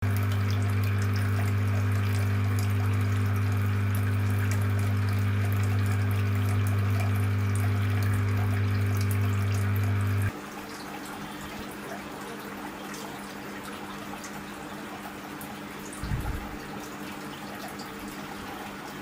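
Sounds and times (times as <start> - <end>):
fountain pump humming: 0.0 - 16.0
water trickling and dripping: 0.0 - 19.0.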